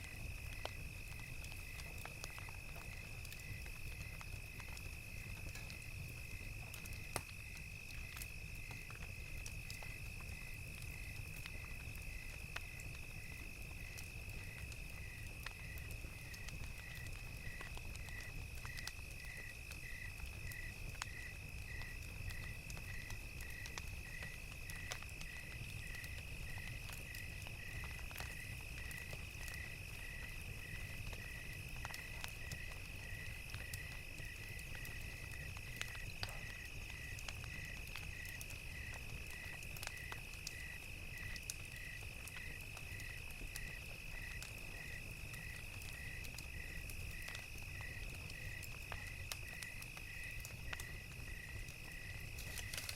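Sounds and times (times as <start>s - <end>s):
crickets chirping: 0.0s - 52.9s
wood fire crackling: 0.0s - 52.9s.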